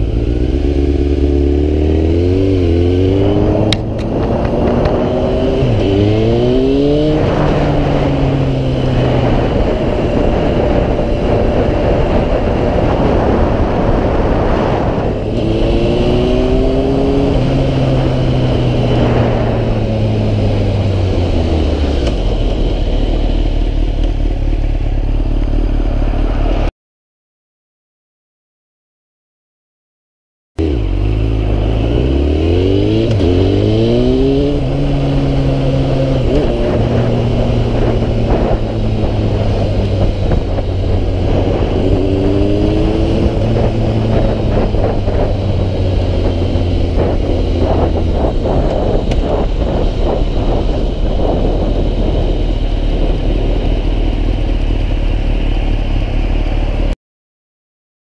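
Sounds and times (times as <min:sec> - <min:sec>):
motorcycle engine revving: 0:00.0 - 0:26.7, 0:30.6 - 0:57.0
wind noise: 0:00.0 - 0:26.7, 0:30.6 - 0:57.0.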